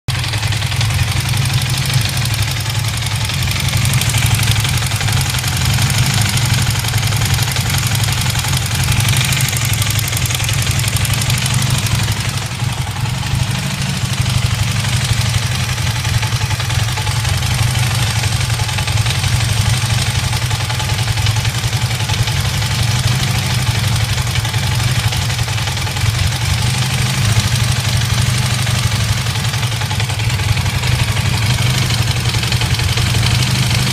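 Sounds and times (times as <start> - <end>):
engine rattling clatter: 0.0 - 33.9
motorcycle engine idling: 0.0 - 33.9.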